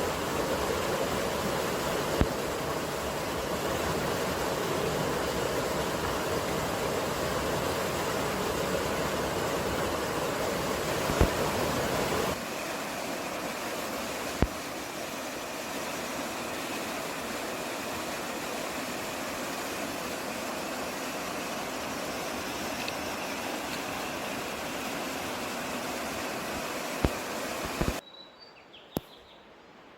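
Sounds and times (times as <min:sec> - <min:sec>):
rushing wind and water: 0:00.0 - 0:28.0.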